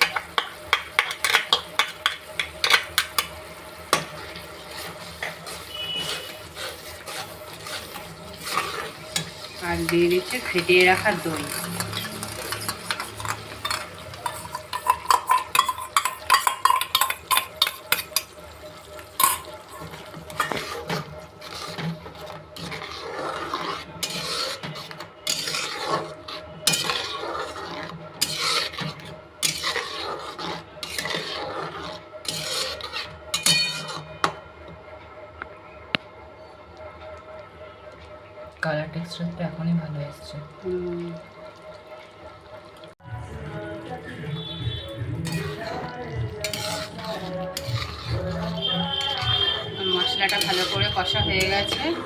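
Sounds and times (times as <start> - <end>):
spatula scraping a cooking pan: 0.0 - 34.4, 44.3 - 52.0.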